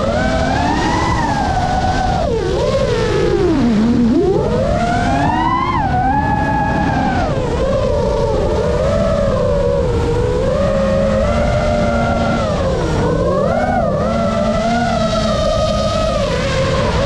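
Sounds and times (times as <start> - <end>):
drone motors whining: 0.0 - 17.0
rush of prop wash and wind: 0.0 - 17.0.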